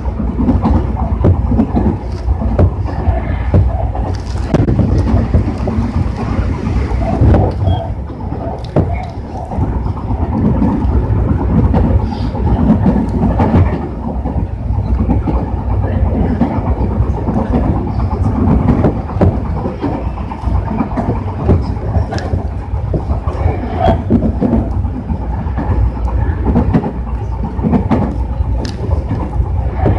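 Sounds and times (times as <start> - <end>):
train wheels rumbling on track: 0.0 - 29.9
wheels clicking over rail joints: 0.0 - 29.9.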